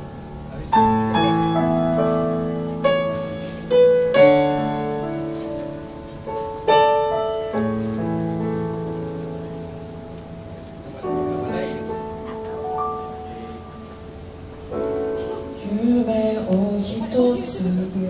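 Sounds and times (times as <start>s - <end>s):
piano chords ringing: 0.0s - 18.0s.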